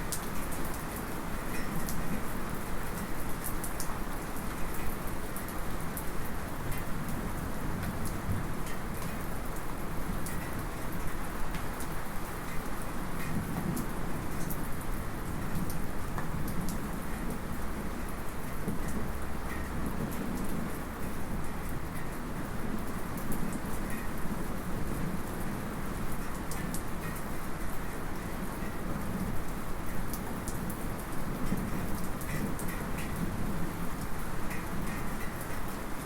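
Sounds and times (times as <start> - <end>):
light rain pattering: 0.0 - 36.0.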